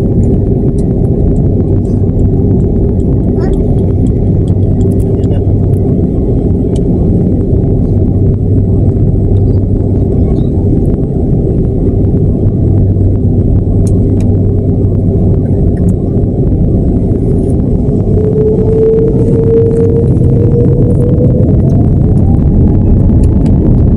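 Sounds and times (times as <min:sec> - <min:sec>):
jet engines idling in cabin: 0:00.0 - 0:23.9.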